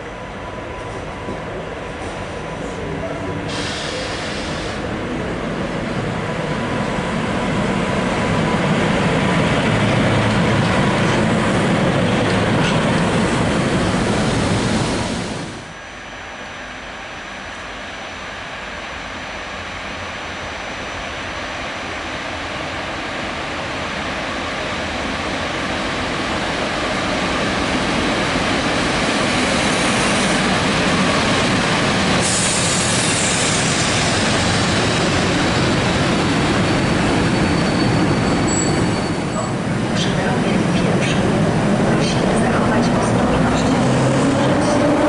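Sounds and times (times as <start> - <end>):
train rolling rumble: 0.0 - 15.7, 24.2 - 45.0.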